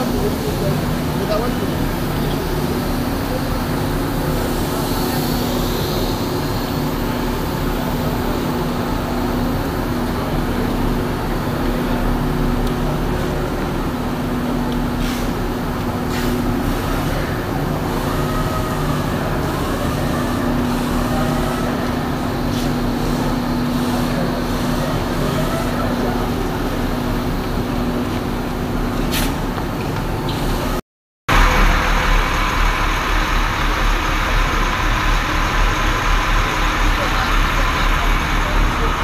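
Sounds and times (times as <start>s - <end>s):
mechanical drone: 0.0s - 29.0s, 30.1s - 39.0s.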